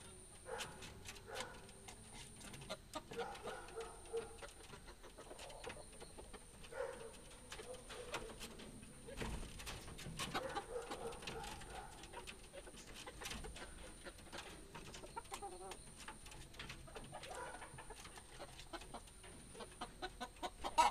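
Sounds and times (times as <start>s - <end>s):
chickens clucking softly: 0.0s - 20.9s.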